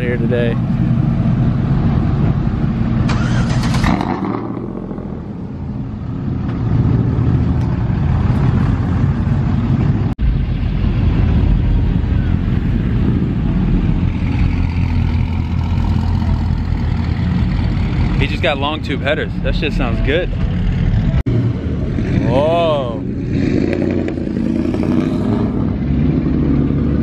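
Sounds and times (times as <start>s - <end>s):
truck exhaust rumbling: 0.0s - 27.0s.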